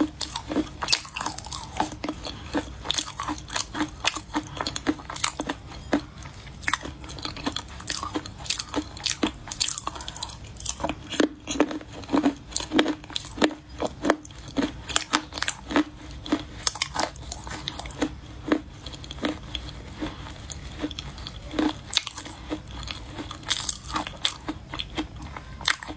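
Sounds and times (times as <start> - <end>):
chewing crunchy clay: 0.0 - 25.9.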